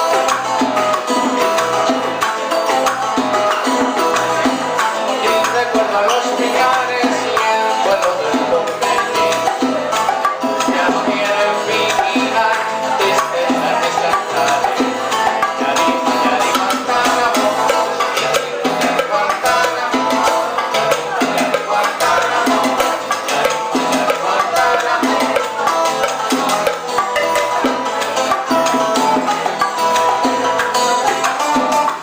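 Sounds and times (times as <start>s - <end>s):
bass line: 0.0s - 32.0s
salsa band playing: 0.0s - 32.0s.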